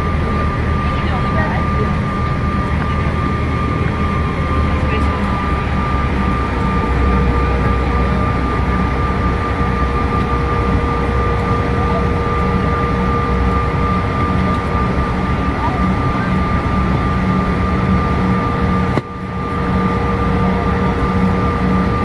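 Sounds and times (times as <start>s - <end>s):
jet engines whining: 0.0s - 22.0s
low rumble of taxiing aircraft: 0.0s - 22.0s.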